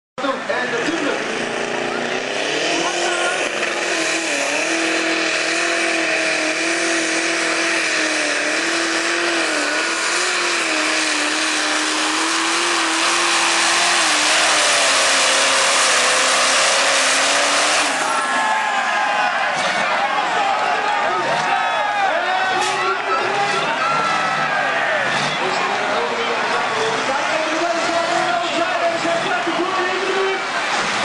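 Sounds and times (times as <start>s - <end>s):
tractor diesel engine at full throttle: 0.2s - 18.9s, 22.3s - 31.0s.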